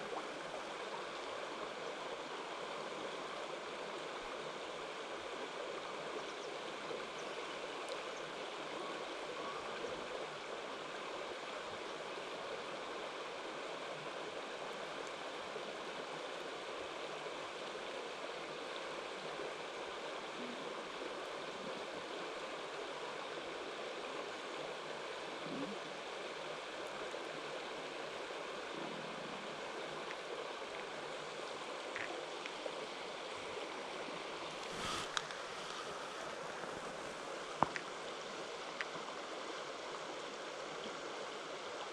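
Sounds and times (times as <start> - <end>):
stream water running over rocks: 0.0 - 41.9.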